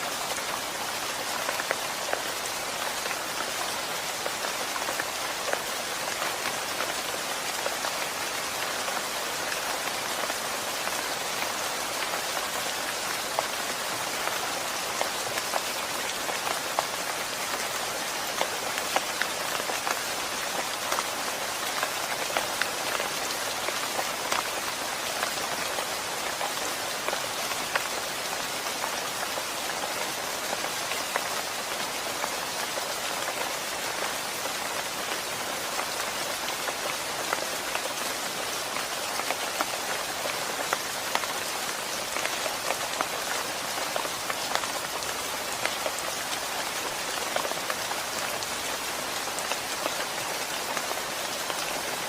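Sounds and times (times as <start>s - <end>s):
rain on a hard surface: 0.0s - 52.0s.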